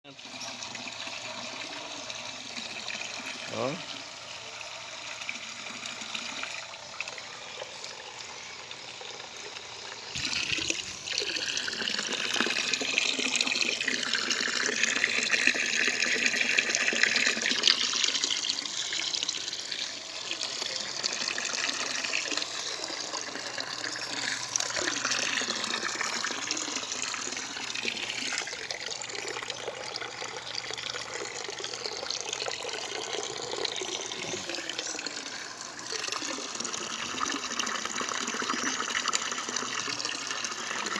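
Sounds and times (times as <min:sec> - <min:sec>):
water running and splashing: 0:00.0 - 0:40.9.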